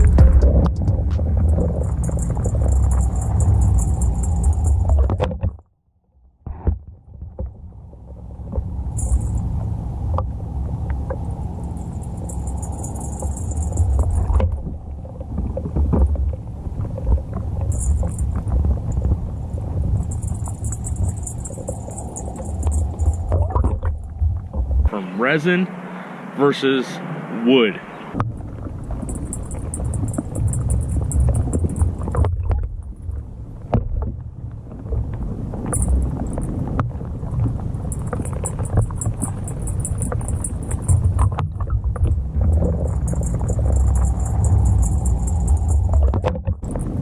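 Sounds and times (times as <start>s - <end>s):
low underwater rumble: 0.0s - 24.9s, 28.0s - 47.0s.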